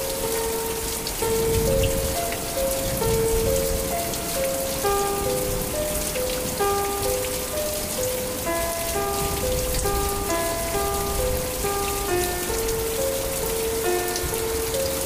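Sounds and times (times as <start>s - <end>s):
gentle melody of held notes: 0.0s - 15.0s
heavy rain on grass: 0.0s - 15.0s
rain running off roof edge: 0.0s - 15.0s.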